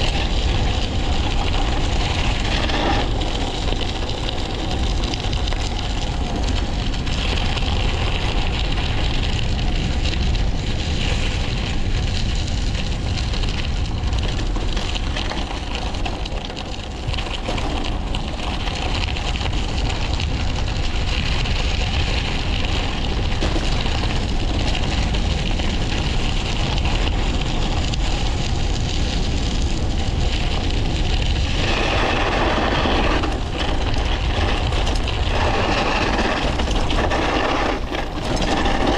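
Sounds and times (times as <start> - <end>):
bike riding rumble: 0.0 - 38.9
wind buffeting microphone: 0.0 - 38.9.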